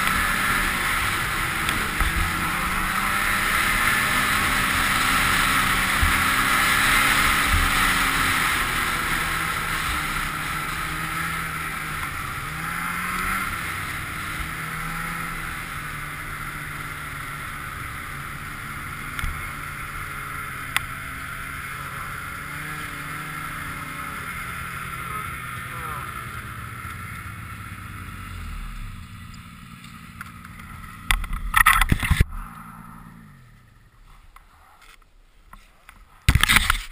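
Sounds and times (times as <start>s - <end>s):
snowmobile engine and track: 0.0s - 36.9s.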